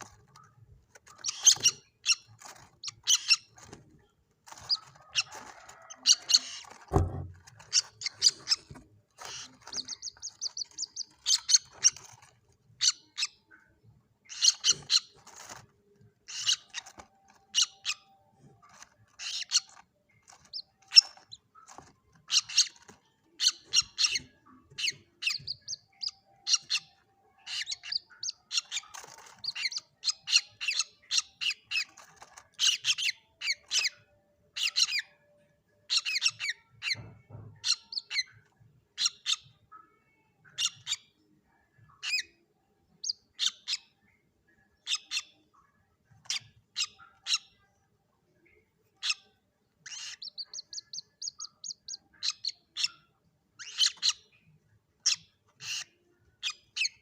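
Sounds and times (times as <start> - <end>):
chicks peeping: 0.0 - 44.0, 44.8 - 47.6, 48.8 - 57.0
chicks squeaky calls: 0.0 - 47.7, 48.8 - 57.0.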